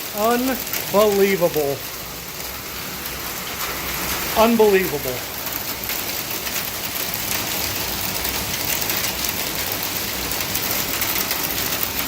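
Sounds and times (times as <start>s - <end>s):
hail and heavy rain clattering: 0.0s - 12.0s.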